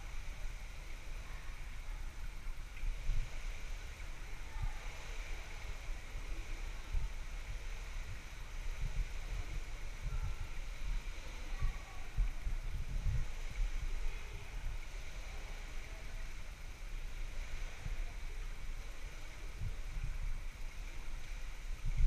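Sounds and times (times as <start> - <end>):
low rumble: 0.0 - 22.0
steady hiss: 0.0 - 22.0.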